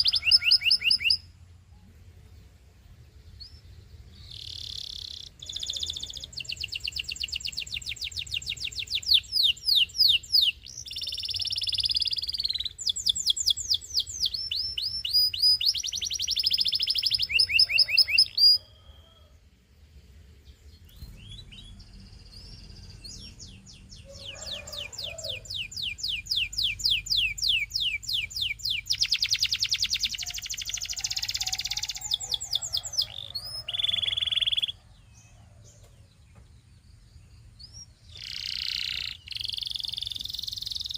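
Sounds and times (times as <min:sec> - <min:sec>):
canary singing: 0:00.0 - 0:01.4, 0:03.2 - 0:19.3, 0:20.4 - 0:36.0, 0:36.9 - 0:40.9.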